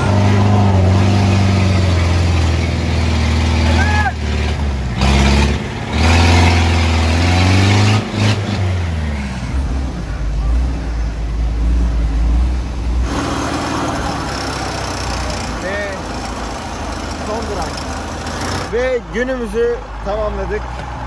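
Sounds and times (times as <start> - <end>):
vehicle engine revving: 0.0 - 19.2.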